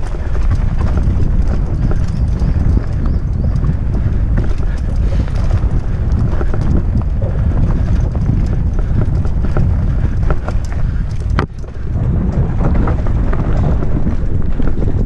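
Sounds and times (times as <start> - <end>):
bike rattling over bumps: 0.0 - 15.0
wind buffeting microphone: 0.0 - 15.0.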